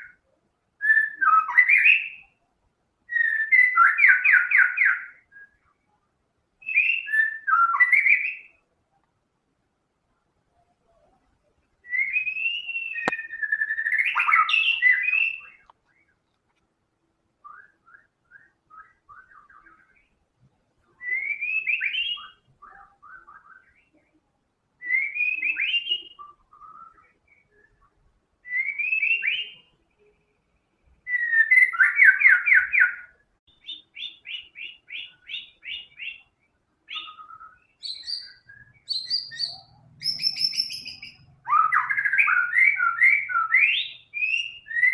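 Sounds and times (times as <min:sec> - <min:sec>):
songbird singing whistles and trills: 0:00.0 - 0:06.0, 0:06.6 - 0:08.7, 0:11.7 - 0:16.2, 0:17.4 - 0:20.2, 0:20.8 - 0:24.2, 0:24.8 - 0:30.3, 0:30.9 - 0:44.9.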